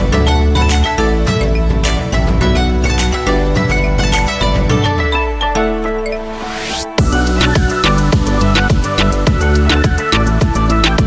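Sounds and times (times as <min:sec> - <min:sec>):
upbeat electronic music: 0:00.0 - 0:11.0.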